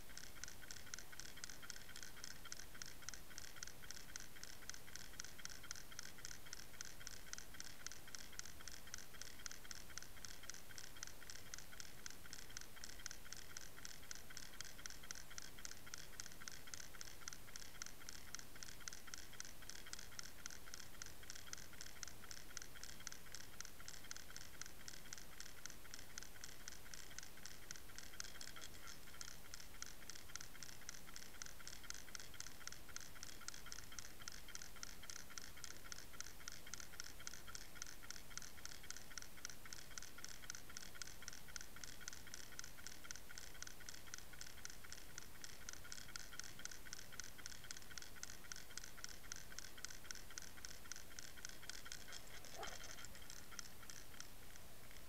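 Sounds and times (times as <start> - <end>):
underwater ticking and scratching: 0.0 - 55.0.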